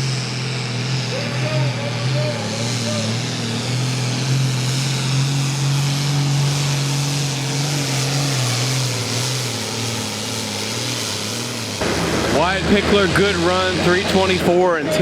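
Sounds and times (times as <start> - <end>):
tractor diesel engine at high revs: 0.0 - 15.0.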